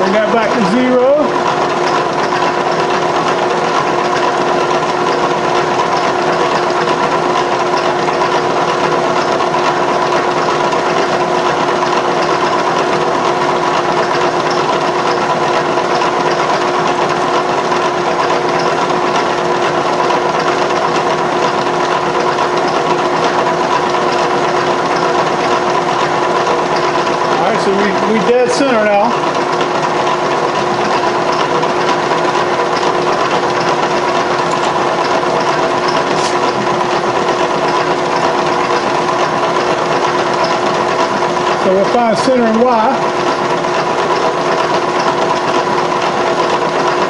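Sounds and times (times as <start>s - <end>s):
milling machine motor whine: 0.0s - 47.0s.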